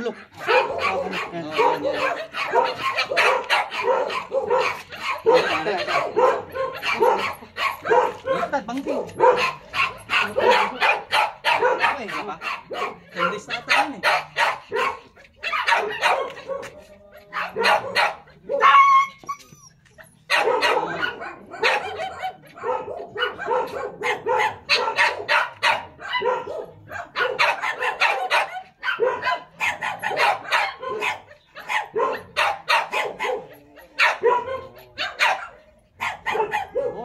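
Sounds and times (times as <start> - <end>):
dog barking and yelping: 0.0 - 37.0.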